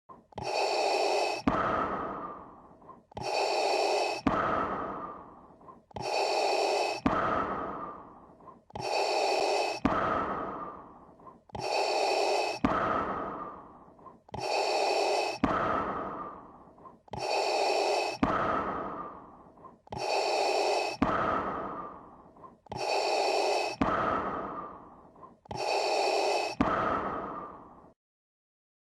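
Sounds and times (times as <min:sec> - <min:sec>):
mechanical respirator breathing: 0:00.1 - 0:28.0.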